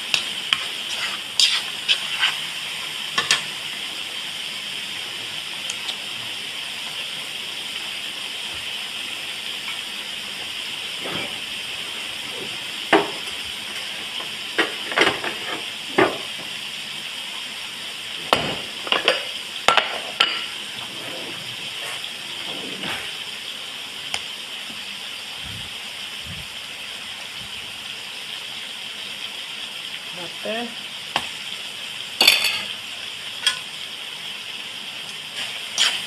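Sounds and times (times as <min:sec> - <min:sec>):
meat sizzling in a wok: 0:00.0 - 0:36.0.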